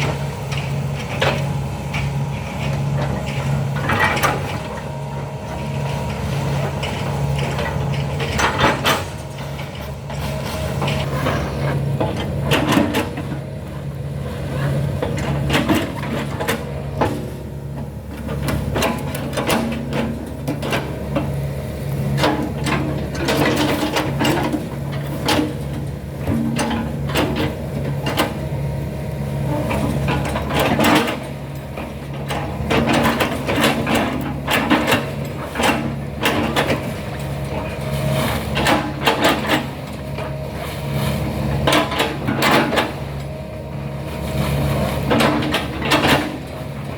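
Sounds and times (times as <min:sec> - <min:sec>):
machine knocks and clanks: 0:00.0 - 0:21.5, 0:22.1 - 0:28.7, 0:29.4 - 0:46.9
excavator diesel engine running: 0:00.0 - 0:46.9.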